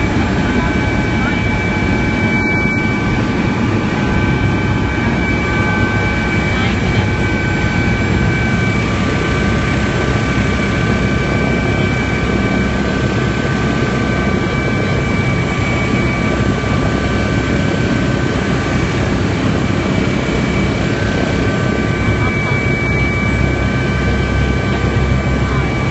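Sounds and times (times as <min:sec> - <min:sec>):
helicopter engine and rotor: 0:00.0 - 0:25.9.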